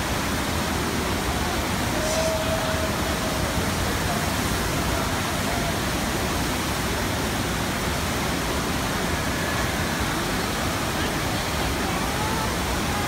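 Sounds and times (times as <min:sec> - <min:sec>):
water rushing up a slope: 0:00.0 - 0:13.0
faint voices: 0:01.1 - 0:13.0.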